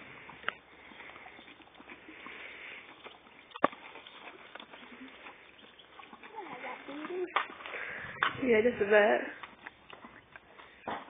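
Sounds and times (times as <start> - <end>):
pony chewing ice crunchily: 0.0 - 10.9.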